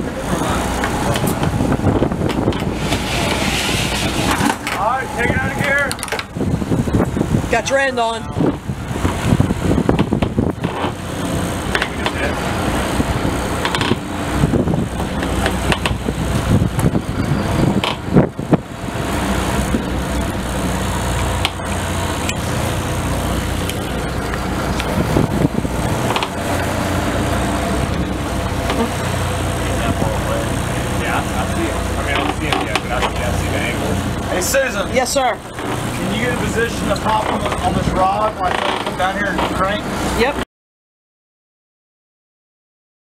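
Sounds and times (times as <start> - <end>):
boat engine humming: 0.0 - 40.4
water noise: 0.0 - 40.4
wind: 0.0 - 40.4.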